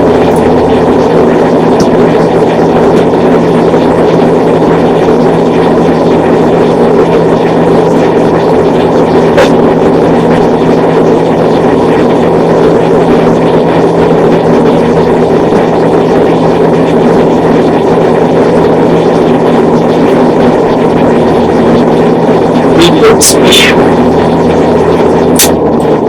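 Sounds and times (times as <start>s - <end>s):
box fan running: 0.0s - 26.0s.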